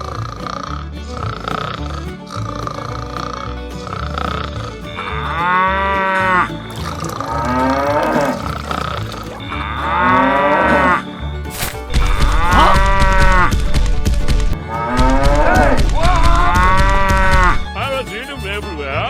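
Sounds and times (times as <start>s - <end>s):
drawn-out cow-like calls: 0.0s - 11.4s, 12.0s - 13.6s, 14.7s - 17.8s
background music with low bass: 0.0s - 19.0s.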